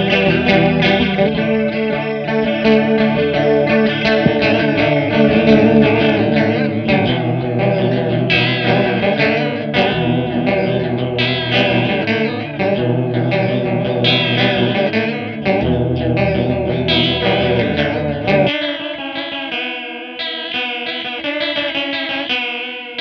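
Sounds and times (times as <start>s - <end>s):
electric guitar riff with chorus: 0.0s - 23.0s.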